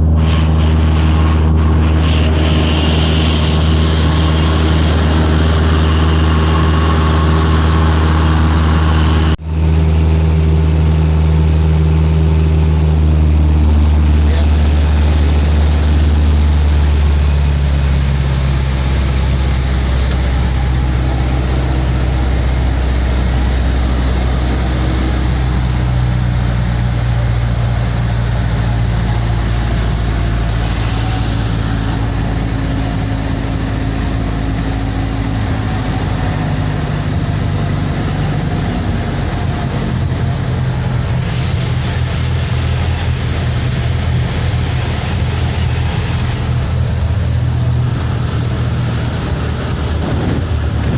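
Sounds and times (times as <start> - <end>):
loud rushing noise: 0.0 - 10.4, 11.0 - 50.9
aircraft engine droning: 0.0 - 50.9.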